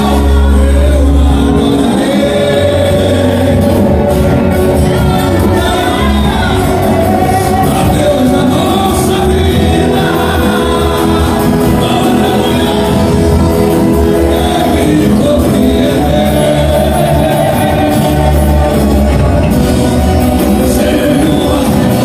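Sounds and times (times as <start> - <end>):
live band playing worship music: 0.0 - 22.0
voices singing: 0.0 - 22.0.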